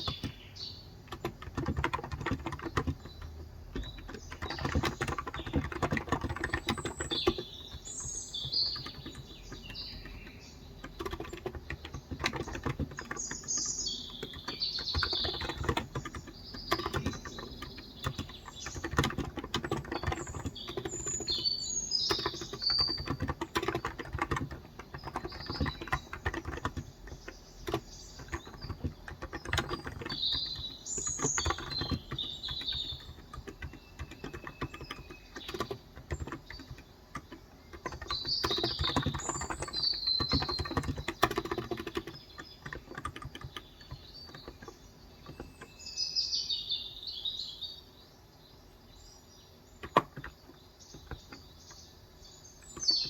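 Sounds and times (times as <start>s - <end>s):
soft keyboard keystrokes: 0.0s - 45.8s, 49.8s - 51.9s
birds chirping: 0.0s - 53.0s.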